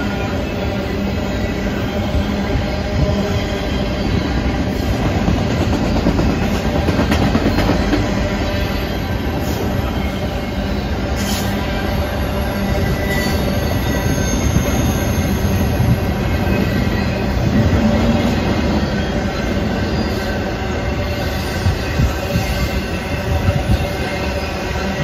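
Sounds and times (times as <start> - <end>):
train wheels rumbling and rattling: 0.0 - 25.0.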